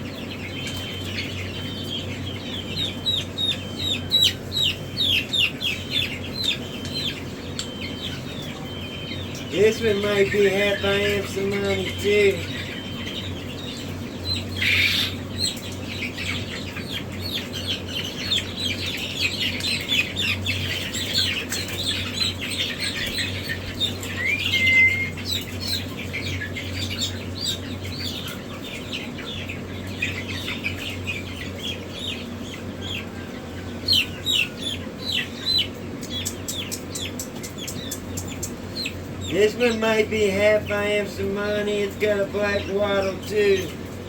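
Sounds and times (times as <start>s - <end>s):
chicks peeping: 0.0s - 44.0s
steady low hum: 0.0s - 44.0s.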